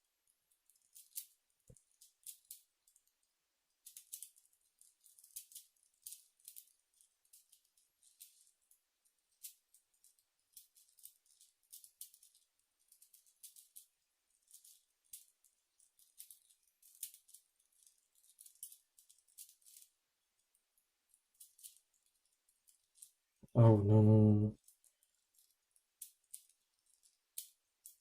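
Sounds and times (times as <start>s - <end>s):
puzzle cube clicking and rattling: 0.6s - 20.5s, 21.3s - 23.2s, 24.6s - 28.0s.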